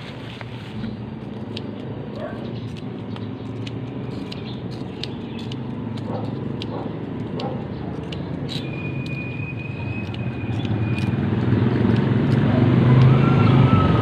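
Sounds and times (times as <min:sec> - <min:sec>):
vehicle engine rumble: 0:00.0 - 0:14.0
sharp ticks: 0:01.4 - 0:13.2.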